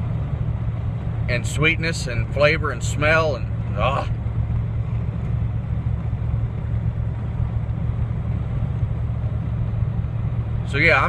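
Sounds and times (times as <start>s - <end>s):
car cabin drone: 0.0s - 11.0s.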